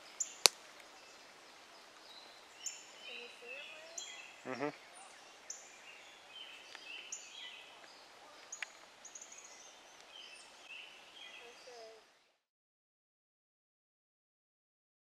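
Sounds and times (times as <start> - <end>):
faint birdsong: 0.0 - 12.5.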